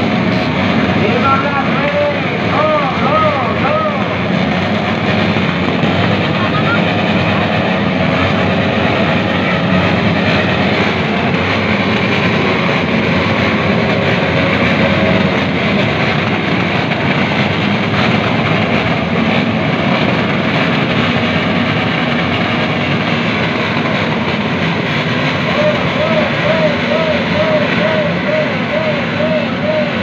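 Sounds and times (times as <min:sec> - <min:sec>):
many motorcycle engines running: 0:00.0 - 0:30.0.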